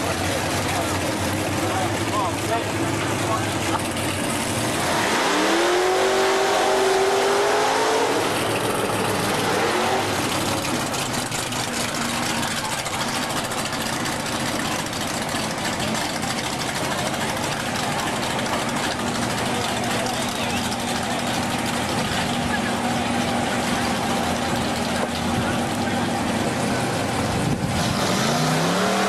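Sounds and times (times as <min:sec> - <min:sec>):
engine running and revving: 0:00.0 - 0:29.0.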